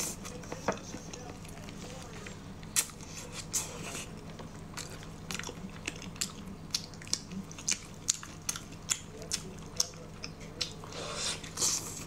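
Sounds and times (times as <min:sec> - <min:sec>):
wet chewing and lip-smacking: 0:00.2 - 0:12.0.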